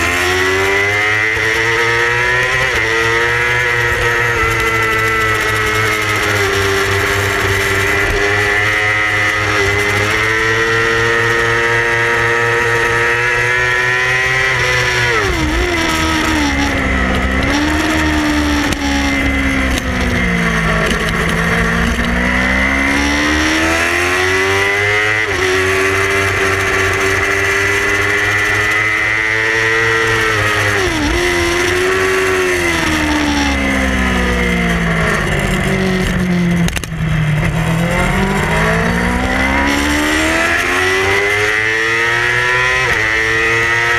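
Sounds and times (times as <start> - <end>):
motorcycle engine at high revs: 0.0 - 43.9.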